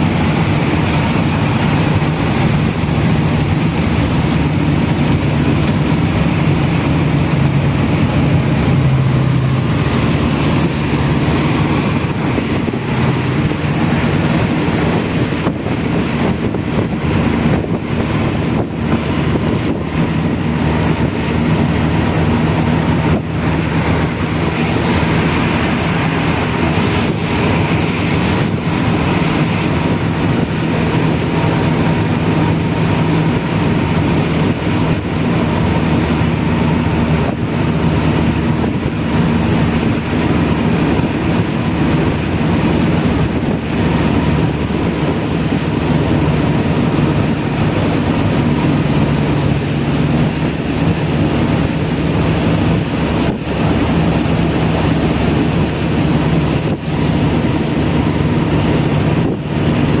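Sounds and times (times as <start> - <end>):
rain: 0.0 - 60.0.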